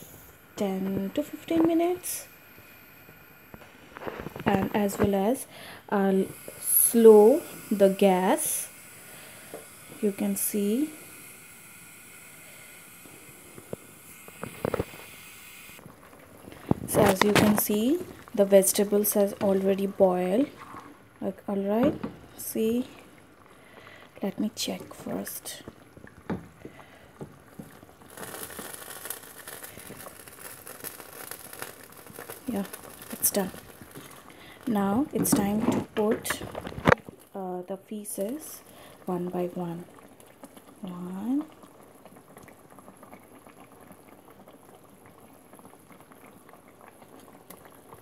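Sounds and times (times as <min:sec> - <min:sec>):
curry simmering with crackling hiss: 0:00.0 - 0:48.0.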